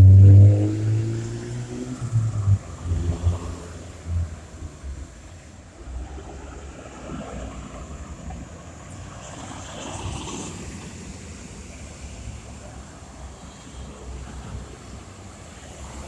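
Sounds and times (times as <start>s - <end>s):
low rumble of passing traffic: 0.0s - 16.0s.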